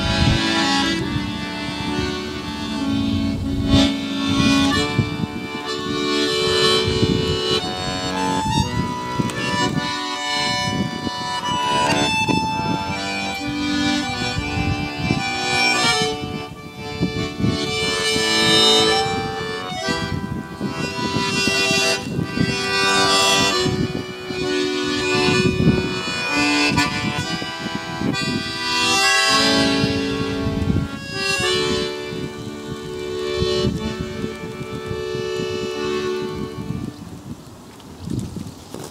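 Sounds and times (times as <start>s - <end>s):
button accordion playing a tune: 0.0s - 37.2s.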